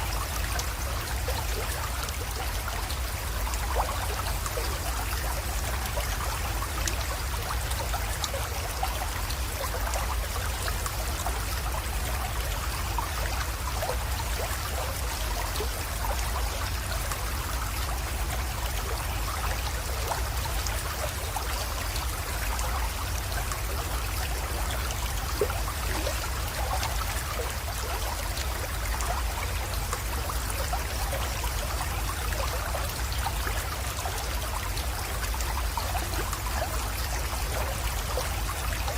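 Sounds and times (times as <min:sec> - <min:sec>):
creek trickling and splashing: 0:00.0 - 0:38.9.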